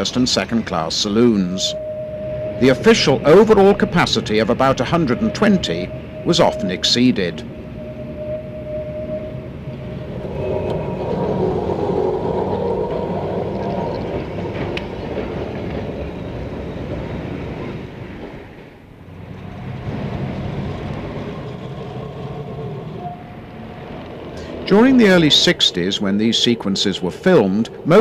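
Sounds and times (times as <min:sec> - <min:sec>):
tram running on rails: 0:00.0 - 0:28.0.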